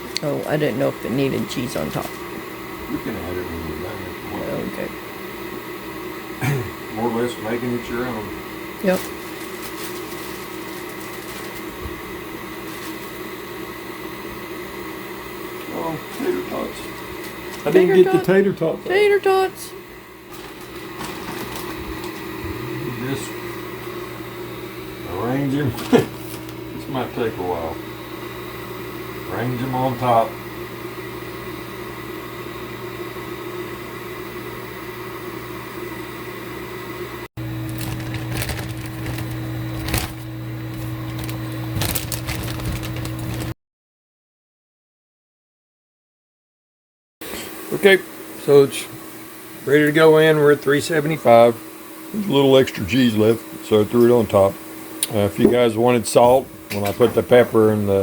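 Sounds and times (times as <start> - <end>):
appliance humming: 0.0 - 43.6, 47.2 - 58.0.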